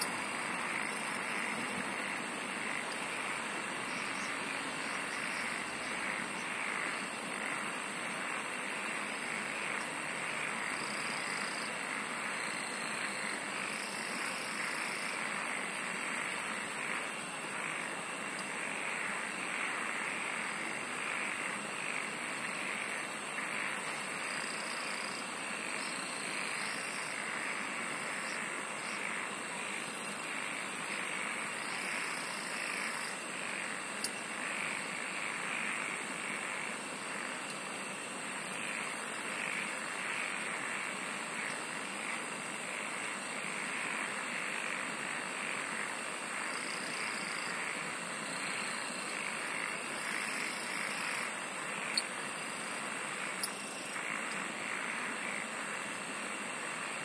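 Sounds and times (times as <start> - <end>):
high-pitched rapid insect trill: 0.0 - 17.9, 21.0 - 37.4, 38.0 - 56.0
insects and frogs chorusing: 0.0 - 57.0.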